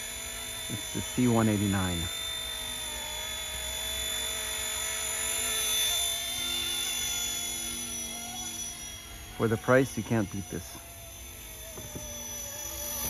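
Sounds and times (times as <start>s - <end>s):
rc helicopter rotor whine: 0.0s - 13.0s.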